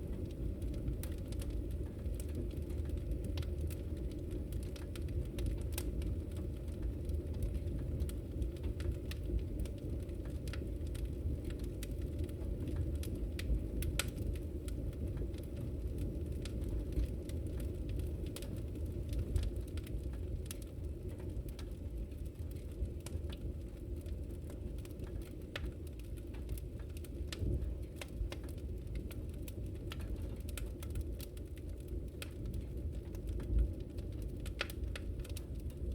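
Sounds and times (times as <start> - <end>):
low fire rumble: 0.0 - 35.9
wood fire crackling: 0.0 - 35.9.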